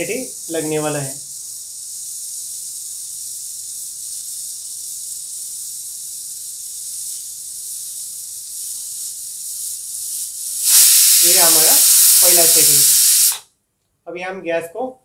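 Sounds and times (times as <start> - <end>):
pressure cooker hissing: 0.0 - 13.4.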